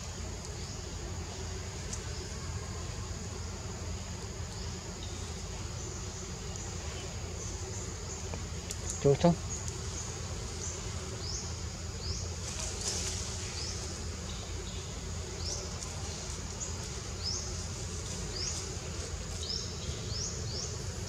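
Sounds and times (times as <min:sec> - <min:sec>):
steady high insect drone: 0:00.0 - 0:21.0.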